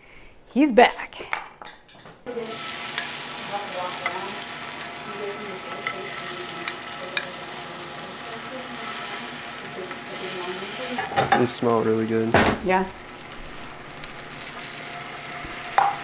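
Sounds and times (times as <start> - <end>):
food frying in oil: 2.3 - 16.0.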